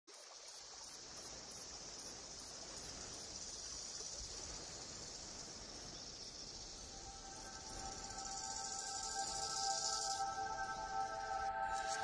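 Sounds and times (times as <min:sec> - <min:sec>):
insect chirping pulse: 0:00.1 - 0:12.0
insects buzzing: 0:00.2 - 0:12.0.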